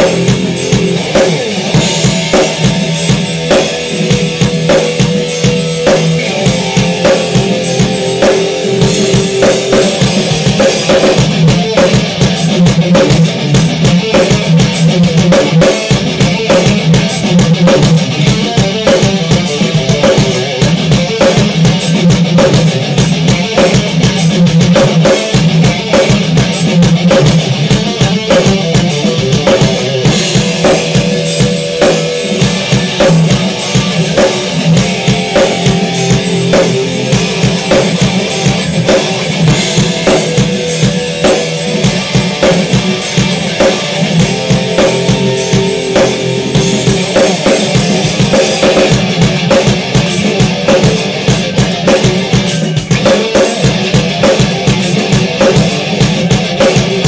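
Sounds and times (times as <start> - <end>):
drum machine rock beat: 0.0 - 57.0
electric guitar riffs: 0.0 - 57.0.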